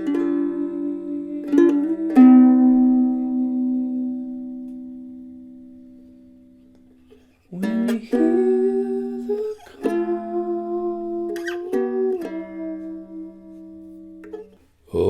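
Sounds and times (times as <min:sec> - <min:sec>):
ukulele chords strummed: 0:00.0 - 0:14.6.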